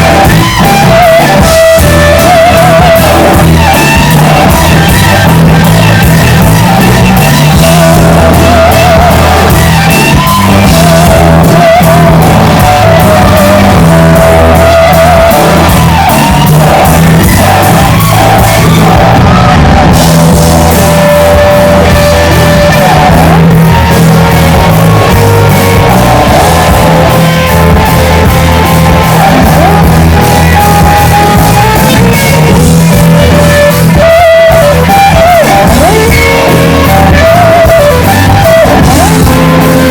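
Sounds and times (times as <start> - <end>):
live rock band playing: 0.0 - 39.9
wavering lead guitar line: 0.0 - 39.9.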